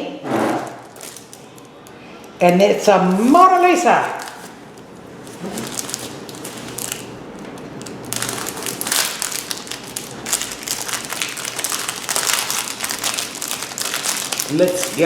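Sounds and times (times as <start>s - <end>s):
plastic packaging crinkling: 0.6s - 15.0s.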